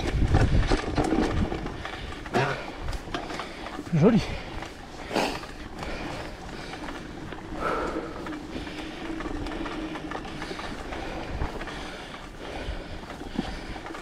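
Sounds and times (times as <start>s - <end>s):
bike rattling over bumps: 0.0s - 14.0s
bike tyres rolling: 0.0s - 14.0s.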